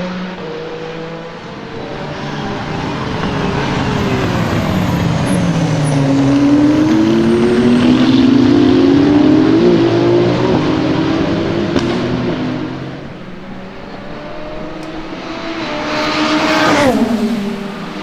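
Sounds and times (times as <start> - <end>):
racing car engine accelerating: 0.0 - 18.0.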